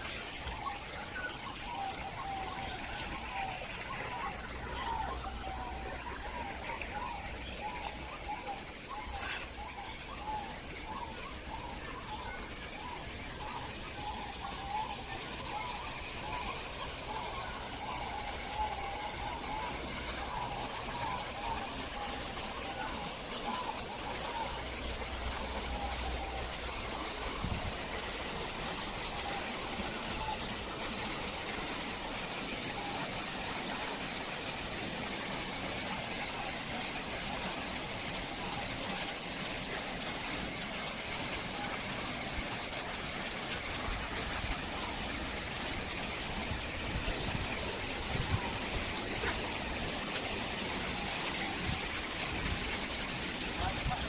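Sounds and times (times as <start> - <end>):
faint bird chirps: 0.0 - 54.0
waterfall rushing hiss: 0.0 - 54.0.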